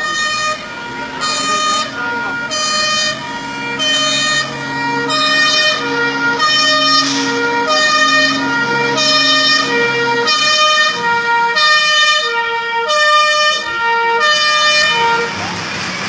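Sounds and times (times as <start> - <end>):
fire truck two-tone siren: 0.0 - 15.6.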